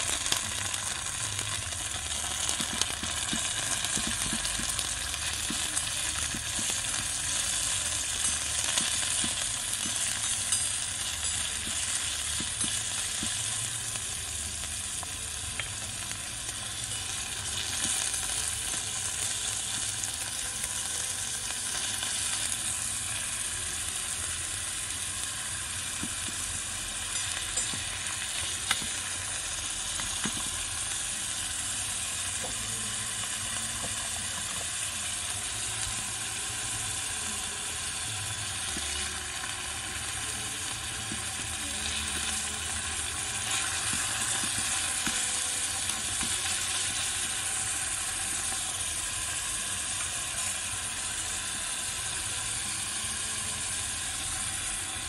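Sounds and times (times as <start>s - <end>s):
meat sizzling in oil: 0.0s - 55.0s.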